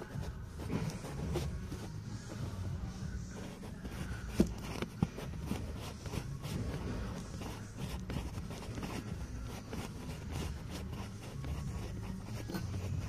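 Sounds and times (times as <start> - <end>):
screwdriver scraping and creaking: 0.0 - 13.0.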